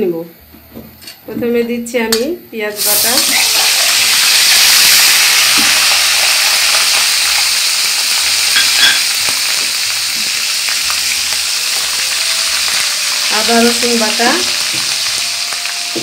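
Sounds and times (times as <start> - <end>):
onion paste sizzling in oil: 2.8 - 16.0.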